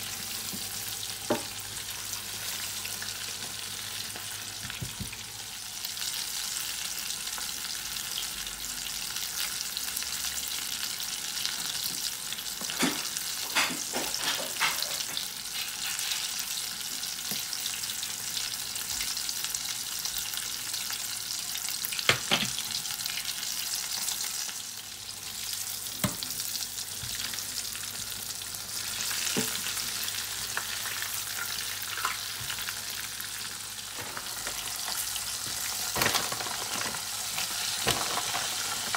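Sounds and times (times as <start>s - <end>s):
chicken deep-frying in oil: 0.0s - 38.9s.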